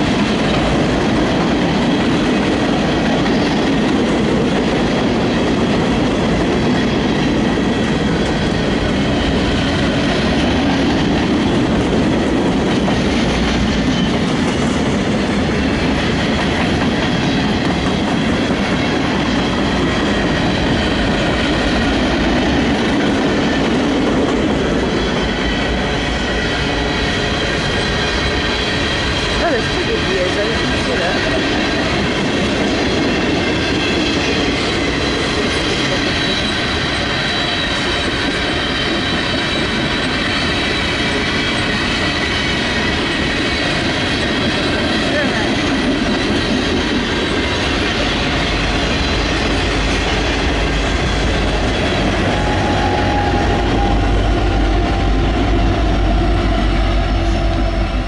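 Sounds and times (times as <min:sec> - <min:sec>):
deep locomotive rumble: 0:00.0 - 0:58.0
train wheels clattering over rails: 0:00.0 - 0:58.0.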